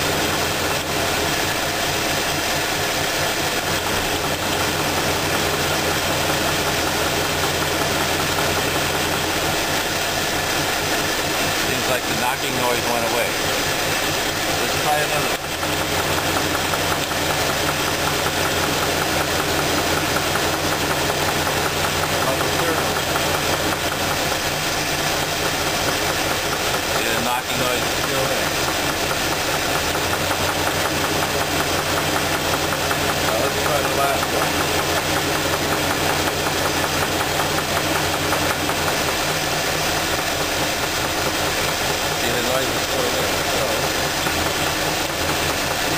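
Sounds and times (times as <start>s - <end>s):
engine idling: 0.0s - 45.9s
engine knocking: 0.0s - 45.9s.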